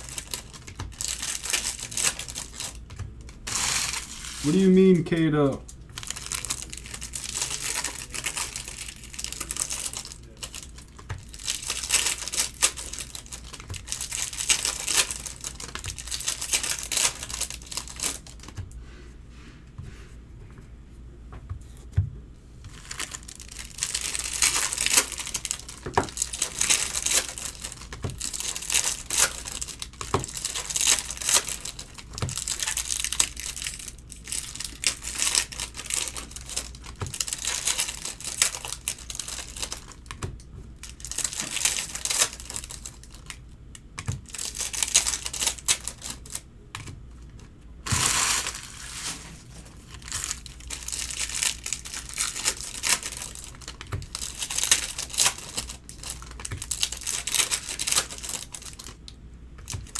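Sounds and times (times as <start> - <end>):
card pack wrappers crinkling: 0.0 - 18.6, 22.7 - 59.9.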